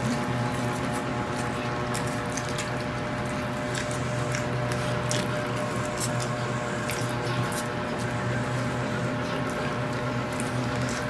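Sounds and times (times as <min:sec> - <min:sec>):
steady low hum: 0:00.0 - 0:11.0
wet chewing and lip-smacking: 0:00.0 - 0:11.0.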